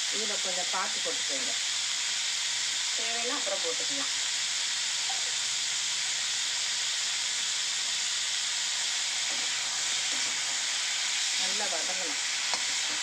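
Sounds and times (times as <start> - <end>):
onions and tomatoes sizzling in oil: 0.0 - 13.0.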